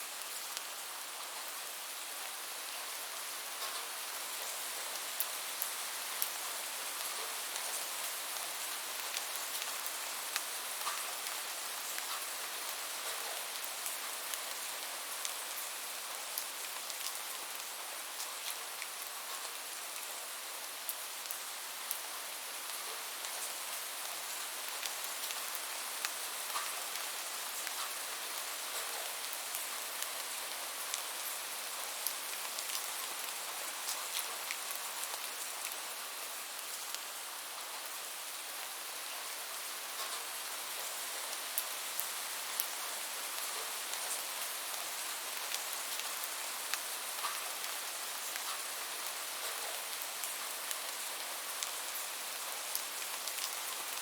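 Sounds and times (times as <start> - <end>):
rain falling: 0.1 - 54.0.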